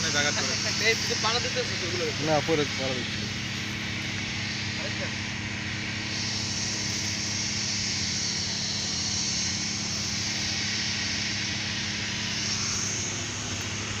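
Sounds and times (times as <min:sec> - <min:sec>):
even hiss: 0:00.0 - 0:14.0
low mechanical hum: 0:00.0 - 0:14.0.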